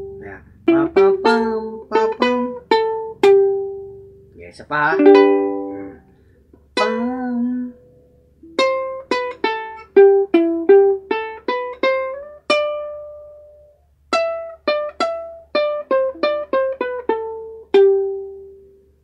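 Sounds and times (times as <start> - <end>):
ukulele picked melody: 0.0 - 19.0.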